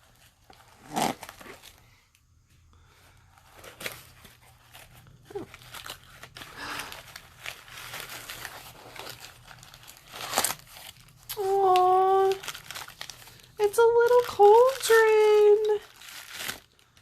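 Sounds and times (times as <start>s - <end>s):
paper crinkling and tearing: 3.3s - 17.0s.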